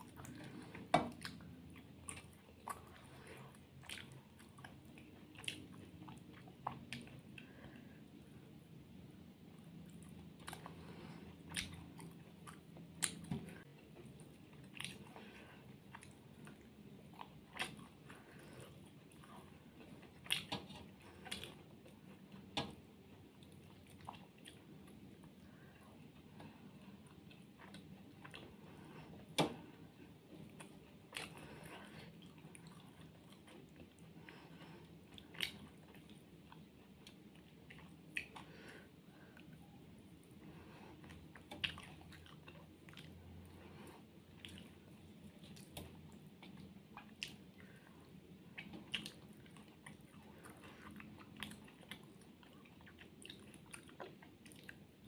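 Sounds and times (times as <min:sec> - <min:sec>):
person chewing: 0:00.0 - 0:08.5, 0:09.4 - 0:55.0.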